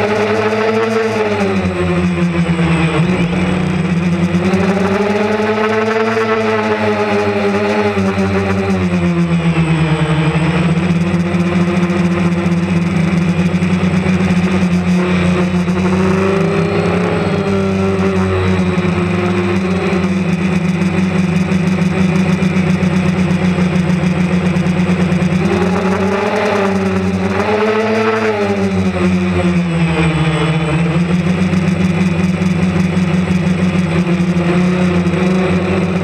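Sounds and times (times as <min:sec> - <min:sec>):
drone propellers buzzing: 0:00.0 - 0:36.0.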